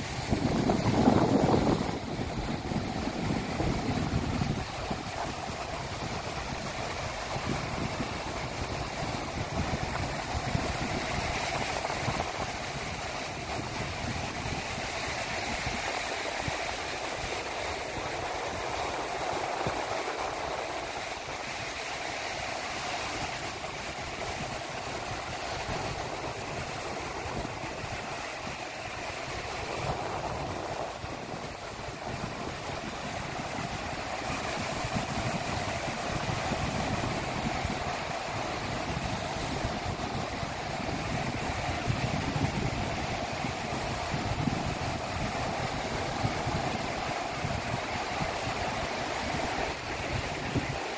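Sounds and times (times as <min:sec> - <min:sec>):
sea waves washing on shore: 0:00.0 - 0:50.9
wind rumbling on microphone: 0:00.0 - 0:50.9.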